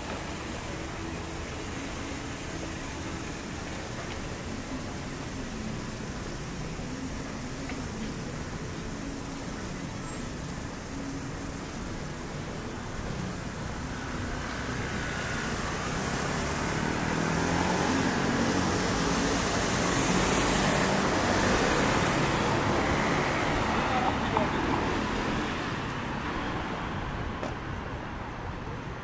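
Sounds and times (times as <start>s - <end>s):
passing traffic: 0.0s - 29.0s.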